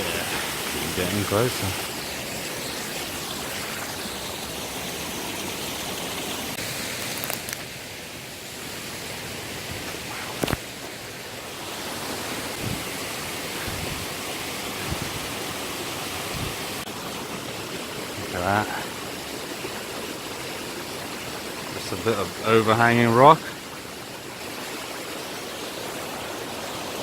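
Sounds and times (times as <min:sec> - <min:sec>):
stream and waterfall rushing: 0:00.0 - 0:27.0.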